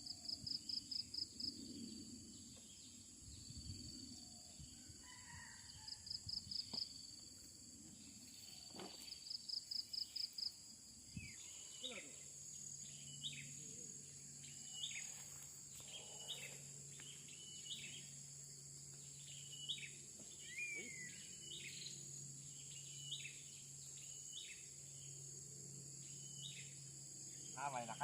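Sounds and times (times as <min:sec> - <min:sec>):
high drone of insects: 0:00.0 - 0:28.0
faint low hum: 0:00.2 - 0:28.0.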